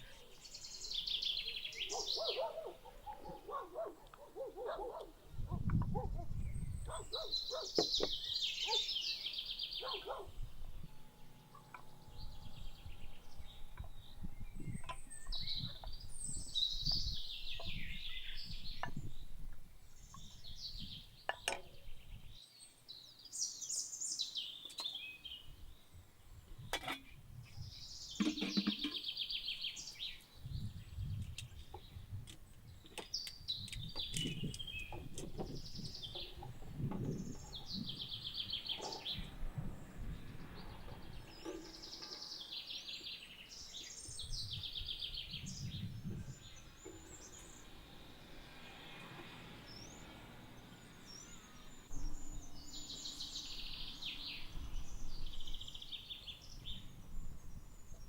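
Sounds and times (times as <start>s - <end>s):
birds singing and chirping: 0.0s - 58.0s.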